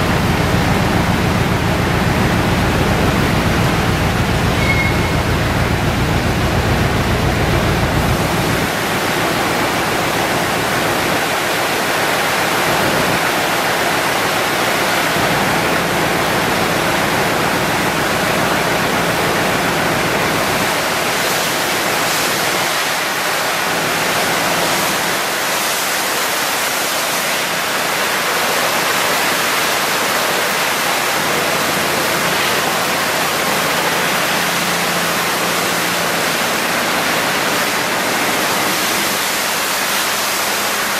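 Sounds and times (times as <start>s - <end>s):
liquid gushing onto concrete: 5.2s - 40.9s.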